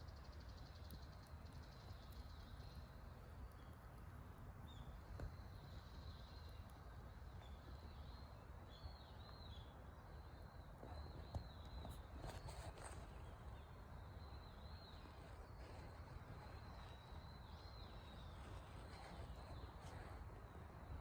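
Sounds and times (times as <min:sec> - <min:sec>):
faint outdoor ambience: 0:00.0 - 0:21.0.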